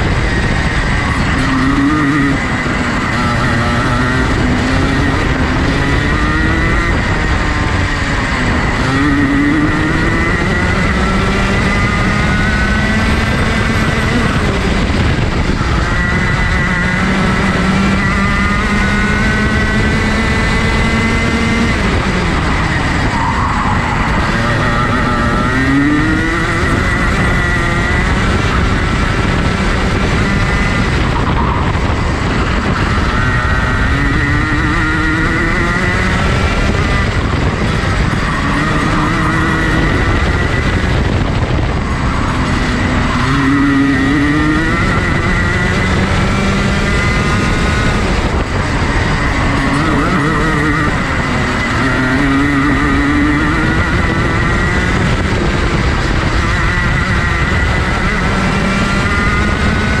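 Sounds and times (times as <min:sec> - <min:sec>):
kart engine revving: 0:00.0 - 1:00.0.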